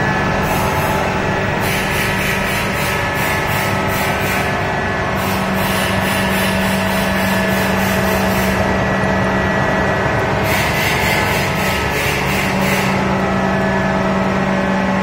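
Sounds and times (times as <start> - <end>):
hydraulic pump mechanical drone: 0.0 - 15.0.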